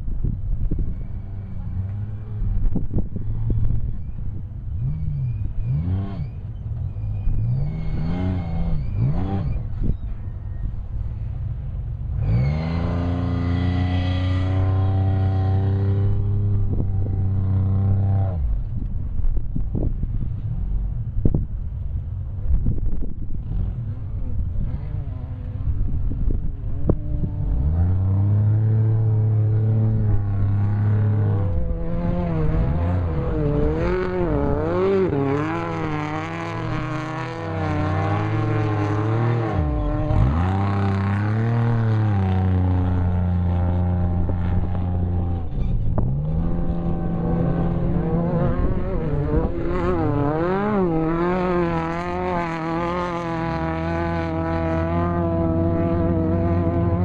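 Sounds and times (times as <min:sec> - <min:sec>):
race vehicle engine revving: 0:00.7 - 0:10.2, 0:12.1 - 0:18.9, 0:23.0 - 0:57.0.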